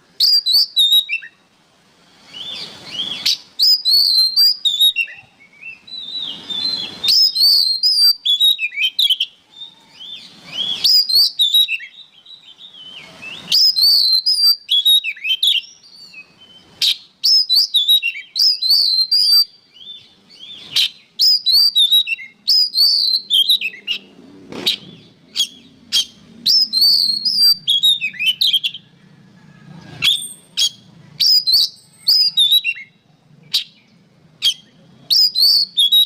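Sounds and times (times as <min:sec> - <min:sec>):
bird singing whistles: 0:00.2 - 0:01.4, 0:02.1 - 0:28.9, 0:29.9 - 0:33.8, 0:34.4 - 0:36.0.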